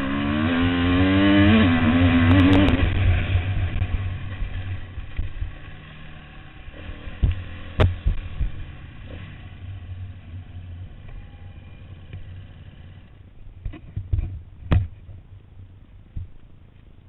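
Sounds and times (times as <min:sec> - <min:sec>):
motorcycle engine idling: 0:01.8 - 0:17.0.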